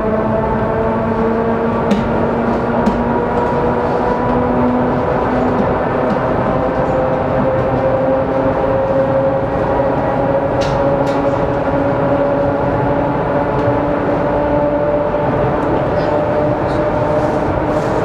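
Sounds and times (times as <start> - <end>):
electric train rumble and motor whine: 0.0 - 18.0.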